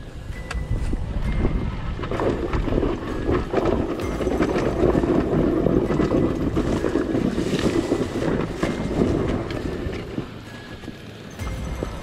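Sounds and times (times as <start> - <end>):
dirt bike engine: 0.0 - 12.0
wind noise on microphone: 0.0 - 12.0
bike knocks and rattles: 0.8 - 12.0.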